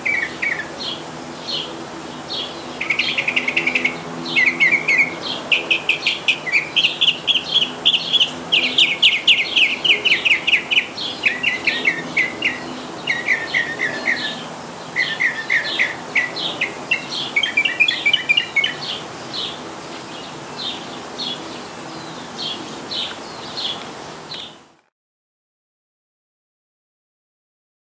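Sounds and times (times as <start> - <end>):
mockingbird singing: 0.0 - 24.6.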